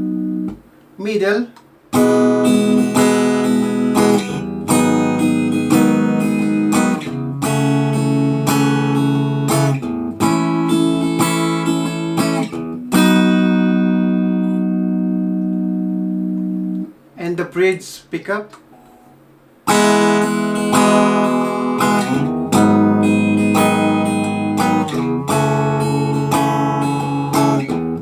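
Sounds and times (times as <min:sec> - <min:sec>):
electric guitar chords: 0:00.0 - 0:00.6, 0:01.9 - 0:16.9, 0:18.7 - 0:28.0.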